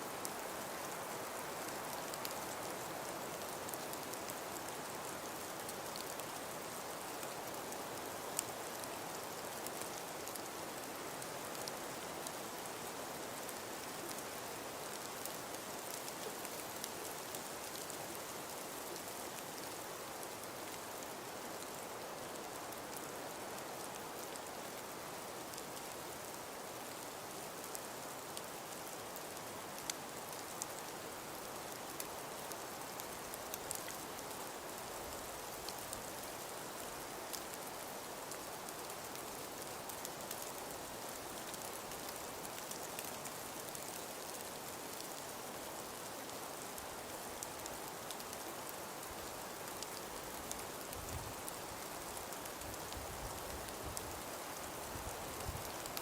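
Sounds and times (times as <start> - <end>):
wind and falling snow hiss: 0.0 - 56.0
faint ticks: 0.2 - 21.8, 27.0 - 56.0.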